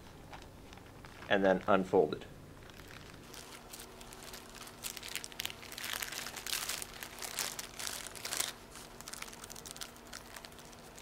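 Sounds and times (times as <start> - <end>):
plastic drape crinkling: 0.3 - 1.8, 2.6 - 11.0.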